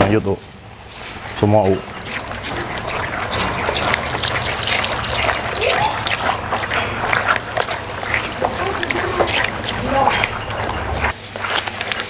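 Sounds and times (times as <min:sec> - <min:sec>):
batter stirred with wet squelching: 0:00.0 - 0:12.0
steady low hum: 0:00.4 - 0:11.2.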